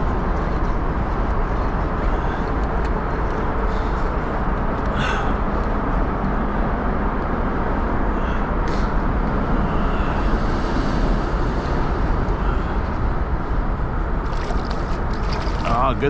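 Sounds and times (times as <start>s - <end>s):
traffic rumble on a bridge: 0.0s - 16.0s.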